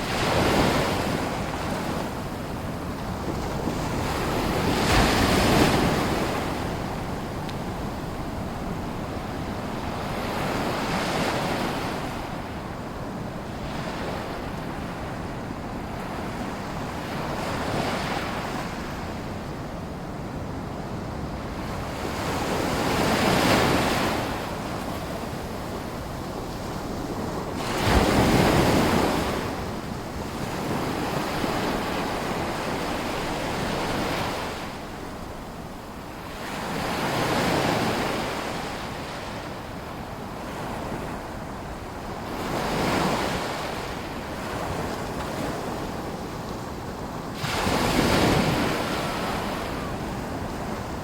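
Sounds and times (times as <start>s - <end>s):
small waves washing ashore: 0.0s - 12.4s, 21.5s - 51.0s.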